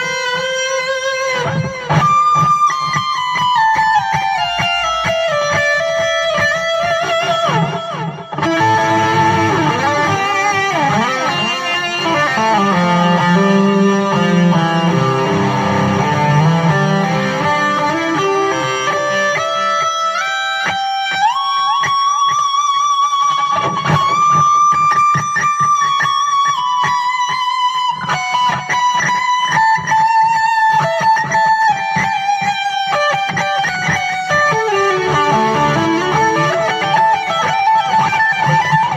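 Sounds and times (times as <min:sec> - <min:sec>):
electric guitar solo: 0:00.0 - 0:38.9.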